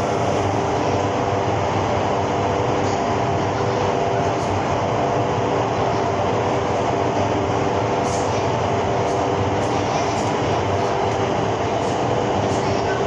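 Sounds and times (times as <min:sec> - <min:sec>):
steady hum tones: 0:00.0 - 0:13.0.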